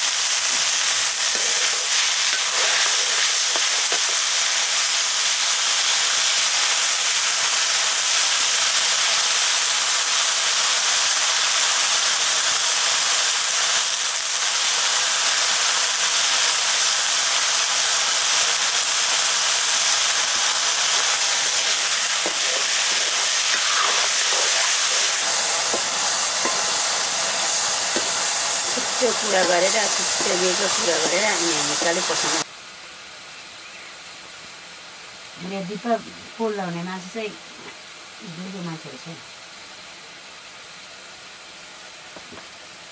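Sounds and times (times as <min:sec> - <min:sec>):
food sizzling in a pan: 0:00.0 - 0:32.5, 0:35.2 - 0:42.9.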